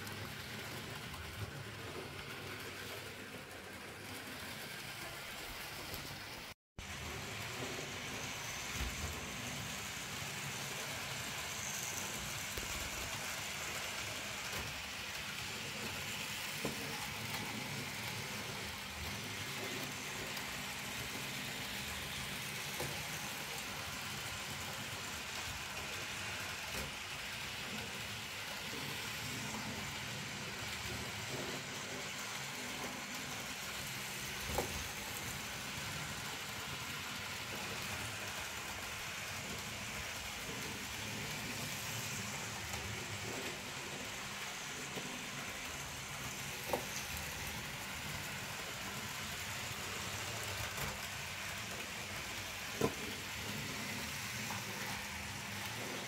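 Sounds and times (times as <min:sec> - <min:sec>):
model train motor whirring: 0:07.0 - 0:56.0.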